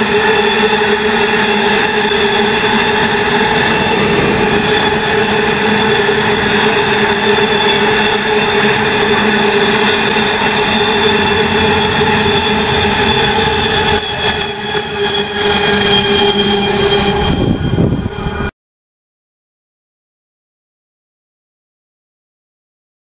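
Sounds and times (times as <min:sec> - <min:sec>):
train wagons rolling on rails: 0:00.0 - 0:18.5
wheels whining on track: 0:00.0 - 0:18.5.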